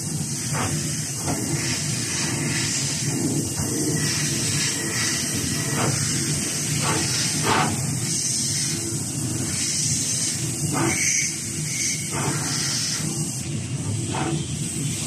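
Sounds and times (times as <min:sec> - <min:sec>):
machine spindle hissing: 0:00.0 - 0:15.0.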